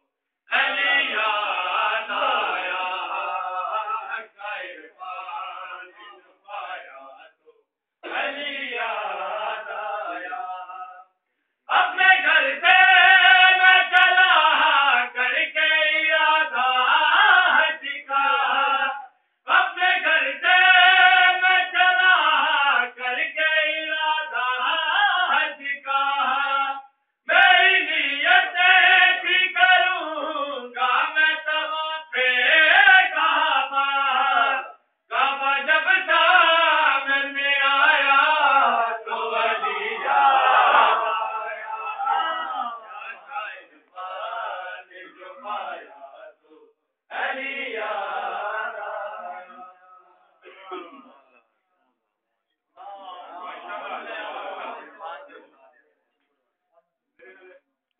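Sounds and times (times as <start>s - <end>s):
group singing a devotional chant: 0.5s - 51.3s, 52.8s - 55.6s.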